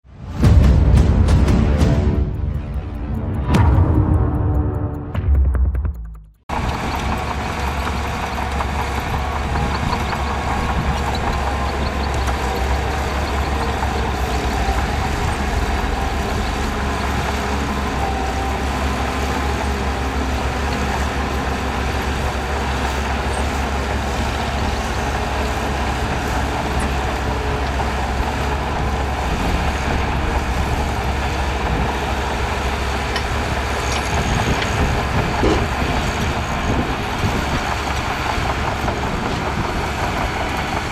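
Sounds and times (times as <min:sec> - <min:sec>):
bulldozer engine drone: 0:00.2 - 0:05.9, 0:06.5 - 0:40.9.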